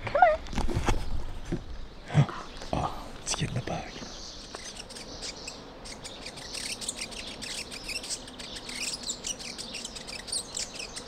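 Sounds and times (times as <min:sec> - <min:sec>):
birds chirping and twittering: 0:00.0 - 0:11.0.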